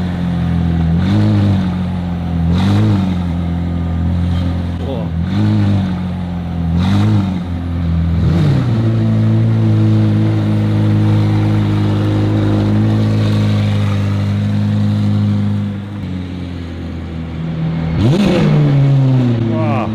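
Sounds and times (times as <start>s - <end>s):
car engine revving and idling: 0.0s - 19.9s.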